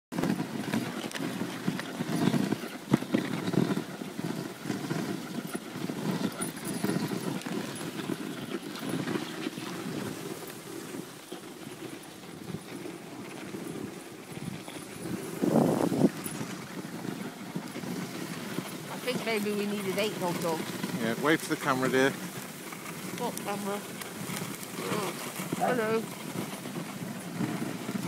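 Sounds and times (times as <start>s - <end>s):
sled runners scraping on snow: 0.1s - 28.0s.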